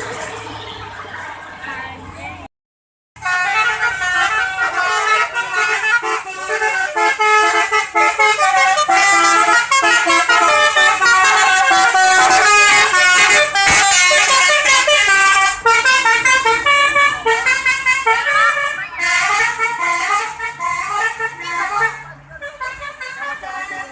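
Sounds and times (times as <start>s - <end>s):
multi-tone bus horn tune: 3.2s - 23.9s.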